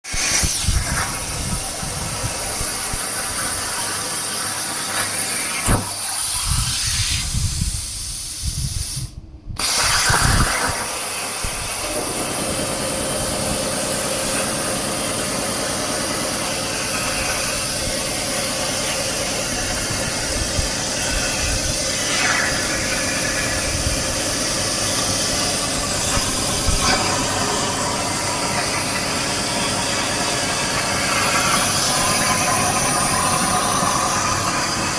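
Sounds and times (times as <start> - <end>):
plasma torch hissing: 0.1 - 34.9.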